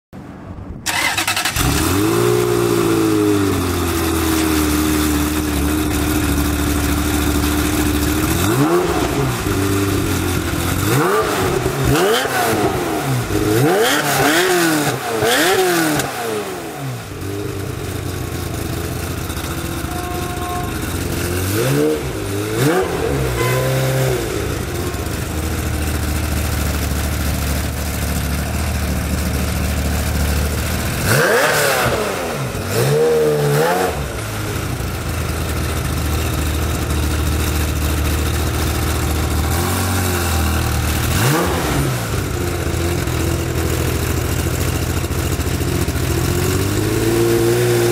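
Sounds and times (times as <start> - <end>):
sports car engine revving and idling: 1.6 - 47.9.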